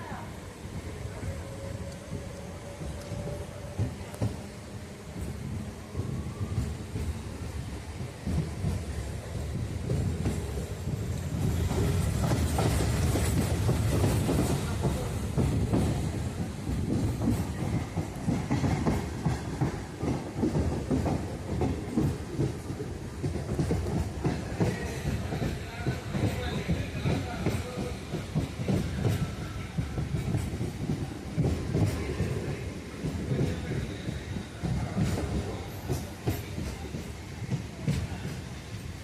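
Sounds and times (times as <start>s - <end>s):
low train rumble: 0.0s - 39.0s
train wheels clattering on rails: 0.0s - 39.0s.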